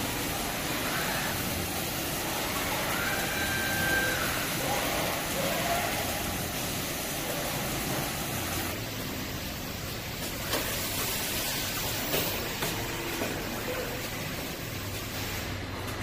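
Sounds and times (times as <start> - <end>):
conveyor line machine noise: 0.0 - 16.0.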